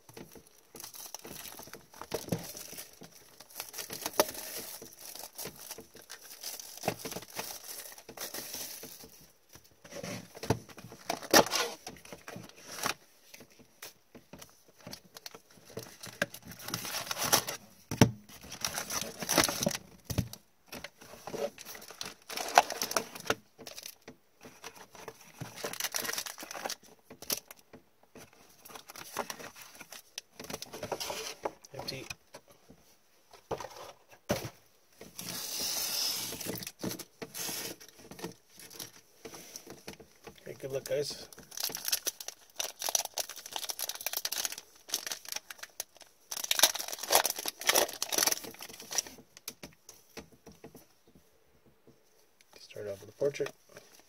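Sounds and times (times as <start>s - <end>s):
cardboard and packs crinkling: 0.0s - 32.5s, 33.3s - 50.3s.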